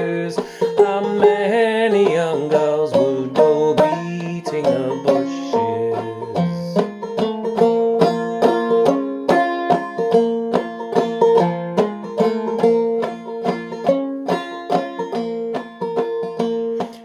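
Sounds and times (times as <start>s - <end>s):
banjo plucked melody: 0.0s - 17.0s.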